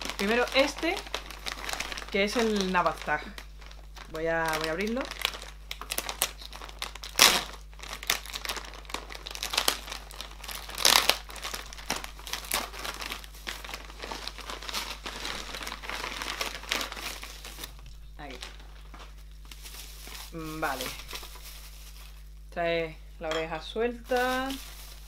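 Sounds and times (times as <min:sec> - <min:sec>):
plastic mailer rustling: 0:00.0 - 0:22.4, 0:23.8 - 0:25.0
plastic tearing: 0:00.0 - 0:22.4, 0:24.0 - 0:25.0.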